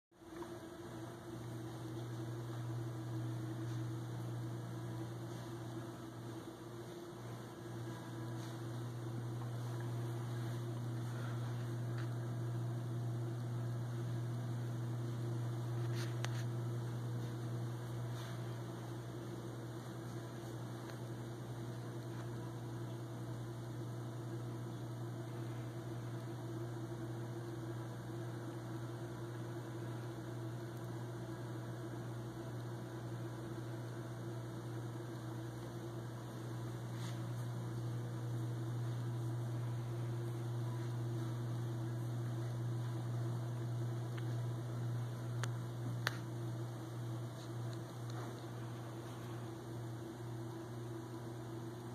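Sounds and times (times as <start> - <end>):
low electrical mains hum: 0.2 - 51.9.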